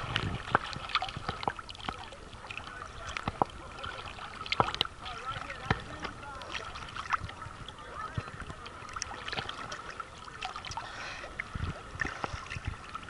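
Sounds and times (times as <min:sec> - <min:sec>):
small waves lapping and splashing: 0:00.0 - 0:13.0
water clicks and plops: 0:00.0 - 0:13.0.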